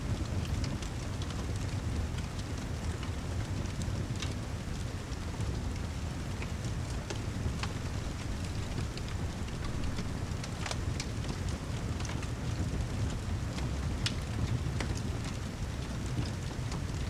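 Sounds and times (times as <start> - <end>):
heavy rain: 0.0 - 17.0
fireplace crackling: 0.2 - 17.0.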